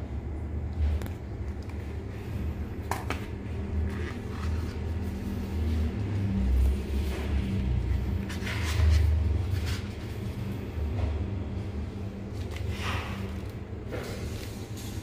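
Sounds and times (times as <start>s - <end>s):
faint hum: 0.0s - 15.0s
steady low rumble: 0.0s - 15.0s.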